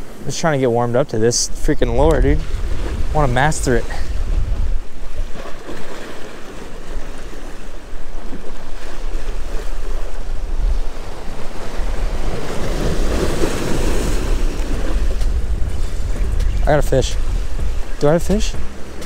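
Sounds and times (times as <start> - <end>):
sea waves washing against rocks: 0.0 - 19.0
wind buffeting microphone: 1.4 - 19.0.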